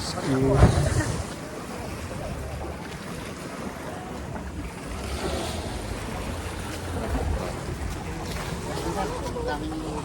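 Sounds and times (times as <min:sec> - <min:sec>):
wind buffeting microphone: 0:00.0 - 0:09.8
sea water washing: 0:00.0 - 0:10.0.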